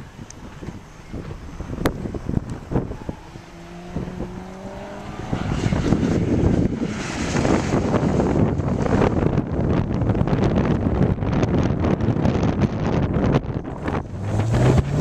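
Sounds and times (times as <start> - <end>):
wind buffeting microphone: 0.0 - 15.0
car engine accelerating: 0.5 - 15.0.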